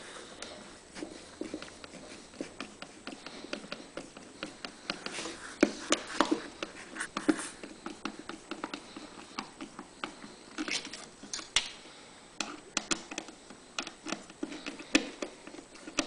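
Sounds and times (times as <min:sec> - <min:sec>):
hands clicking and tapping small parts: 0:02.5 - 0:11.8, 0:12.4 - 0:16.0.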